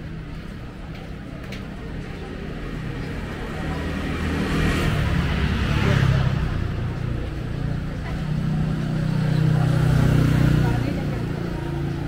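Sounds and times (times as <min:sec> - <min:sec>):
vehicle engines passing by: 0:00.0 - 0:12.0.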